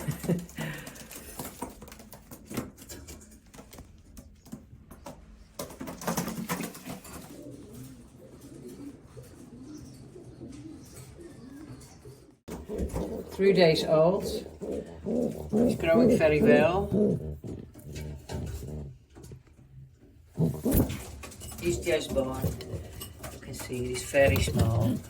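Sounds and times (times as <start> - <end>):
pigeons cooing: 0.0 - 2.9, 3.6 - 25.0.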